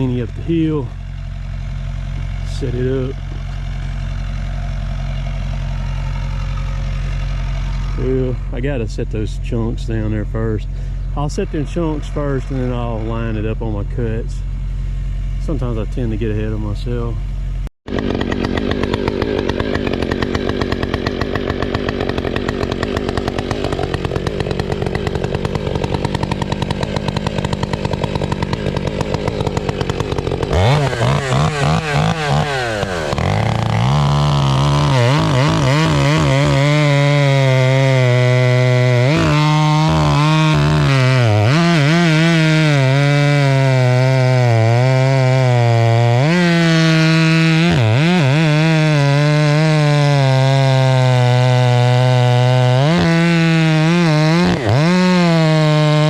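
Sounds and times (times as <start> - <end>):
engine running and revving: 2.1 - 8.8, 17.9 - 56.0.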